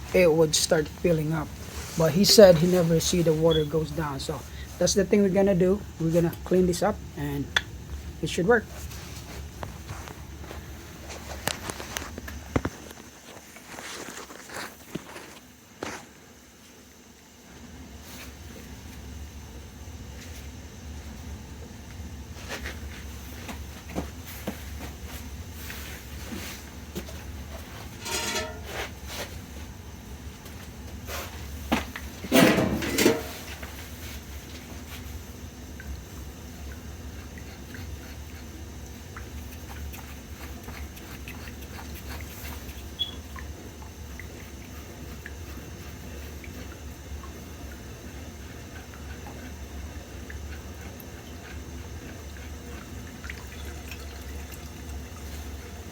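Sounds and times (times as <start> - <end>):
steam boiler humming: 0.0 - 55.9.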